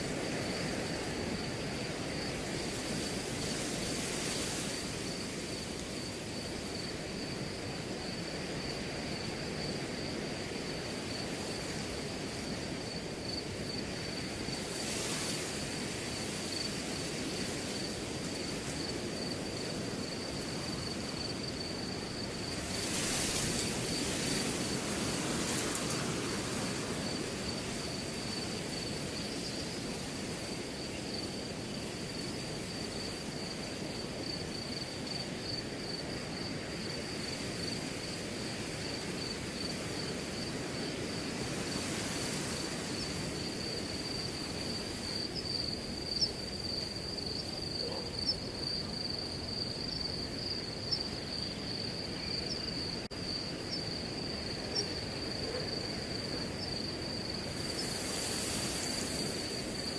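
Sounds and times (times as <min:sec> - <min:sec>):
crickets trilling: 0:00.0 - 0:59.9
wind rustling through grass: 0:00.0 - 0:59.9.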